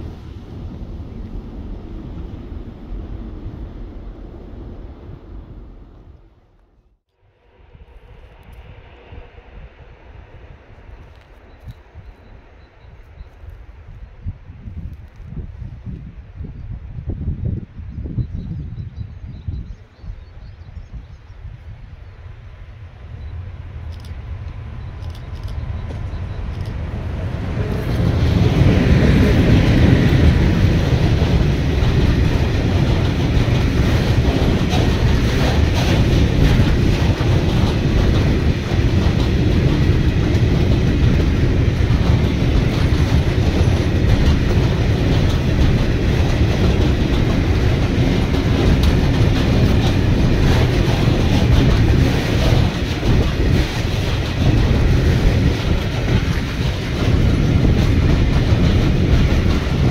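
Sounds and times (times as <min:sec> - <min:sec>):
electric locomotive passing: 0:00.0 - 0:06.6, 0:07.2 - 0:15.3, 0:20.9 - 0:59.9
freight train wheels on rails: 0:00.0 - 0:06.6, 0:07.3 - 0:17.2, 0:18.2 - 0:59.9.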